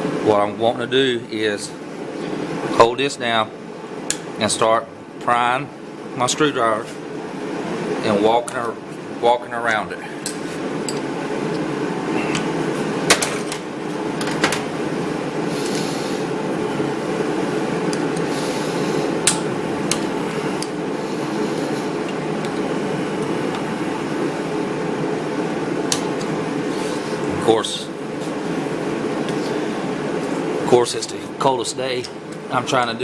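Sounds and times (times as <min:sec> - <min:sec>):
steady machine hum: 0:00.0 - 0:33.0.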